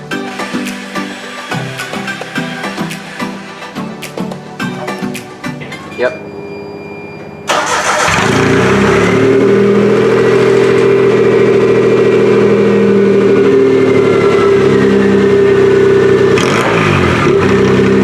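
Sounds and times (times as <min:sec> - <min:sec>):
car engine idling and revving: 0:00.0 - 0:04.8, 0:06.8 - 0:18.0.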